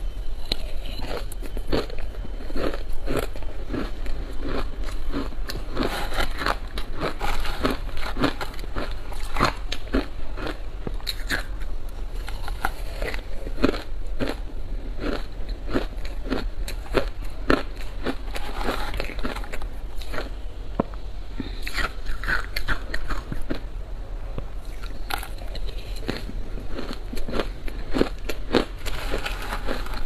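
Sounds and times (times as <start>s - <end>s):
shaved ice crunching being chewed: 0.0s - 20.4s, 21.5s - 23.7s, 24.6s - 30.0s.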